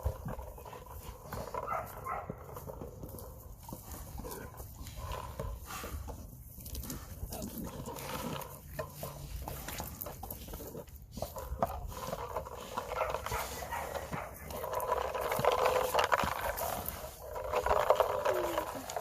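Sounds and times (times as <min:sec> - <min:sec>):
pigs vocalizing: 0:03.1 - 0:19.0.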